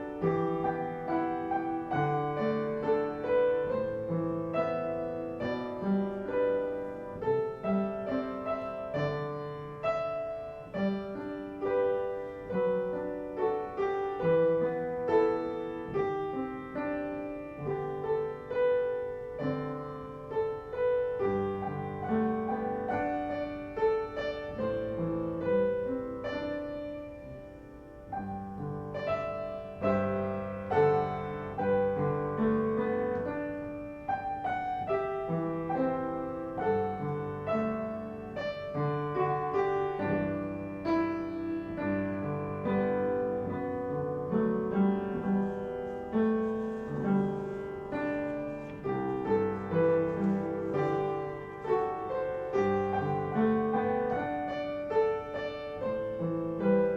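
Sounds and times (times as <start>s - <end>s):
slow piano chords and melody: 0.0s - 56.9s.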